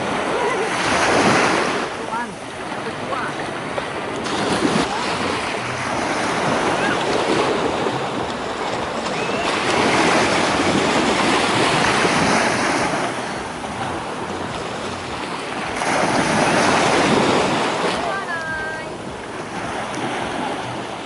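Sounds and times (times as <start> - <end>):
sea waves washing: 0.0 - 21.0
wind on microphone: 0.0 - 21.0.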